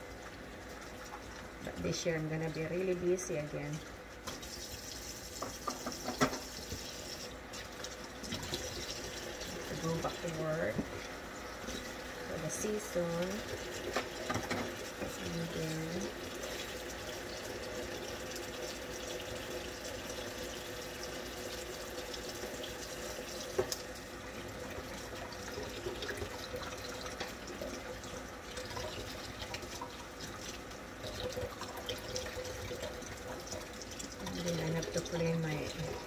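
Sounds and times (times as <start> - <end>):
faucet running: 0.0 - 36.0
dishes being washed: 4.2 - 12.0, 13.1 - 36.0.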